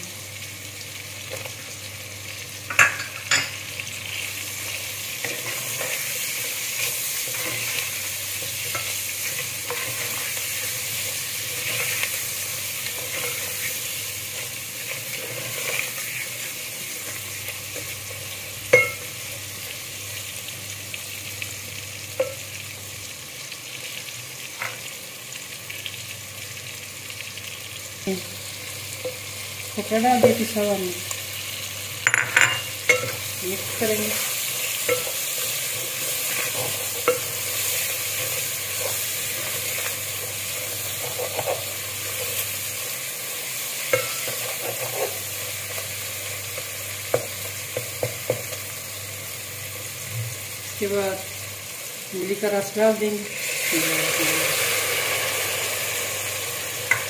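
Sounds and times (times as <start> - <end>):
vegetables sizzling in a pot: 0.0 - 57.0.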